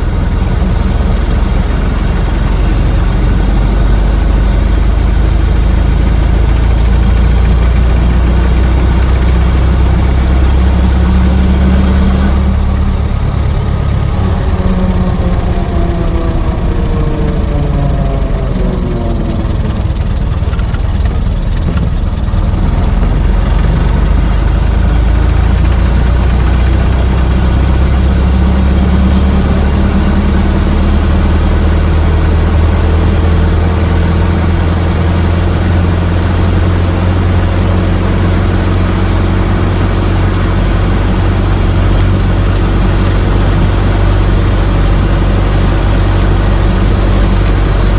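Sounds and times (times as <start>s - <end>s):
car engine droning: 0.0s - 47.9s.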